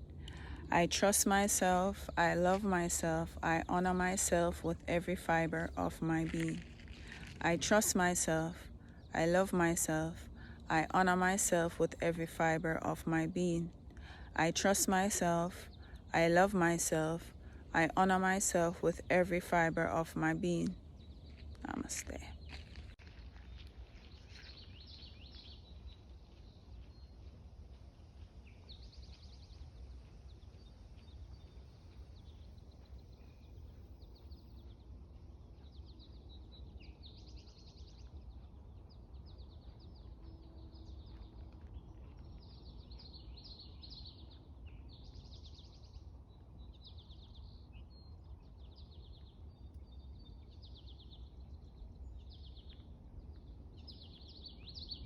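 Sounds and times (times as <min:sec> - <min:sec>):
low steady rumble: 0:00.0 - 0:55.0.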